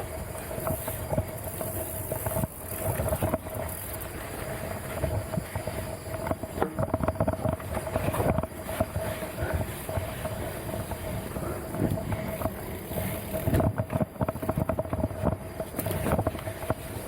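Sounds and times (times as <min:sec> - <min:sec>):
faint steady whine: 0:00.0 - 0:17.0
mountain bike rattling on trail: 0:00.0 - 0:17.0.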